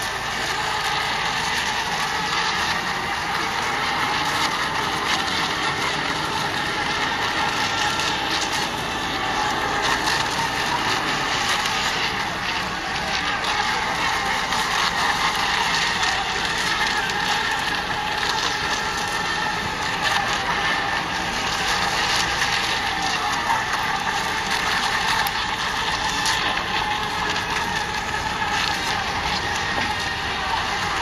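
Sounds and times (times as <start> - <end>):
model boats motor whine: 0.0 - 31.0.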